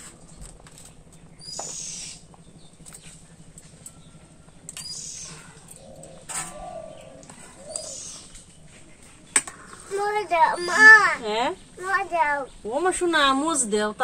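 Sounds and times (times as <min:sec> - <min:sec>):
softer lower bird calls: 0:01.3 - 0:12.7.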